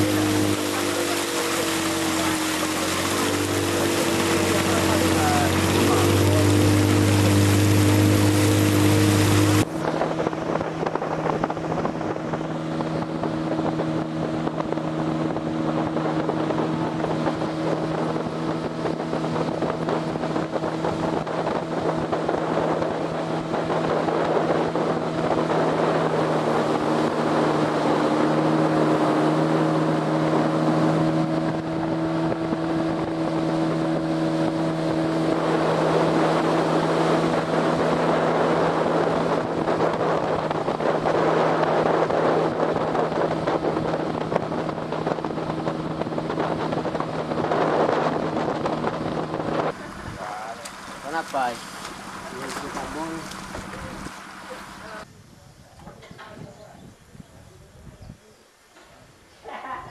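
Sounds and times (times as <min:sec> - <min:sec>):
outboard motor running: 0:00.0 - 0:55.1
water rushing along hull: 0:00.0 - 0:56.8
wind on microphone: 0:00.0 - 0:59.9.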